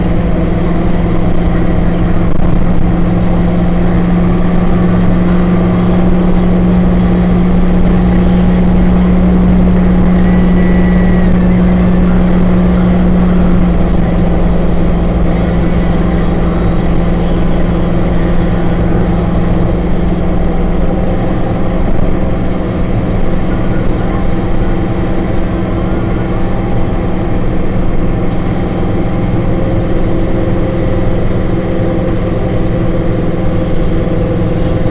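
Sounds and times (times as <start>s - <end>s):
diesel truck engine droning: 0.0s - 34.9s.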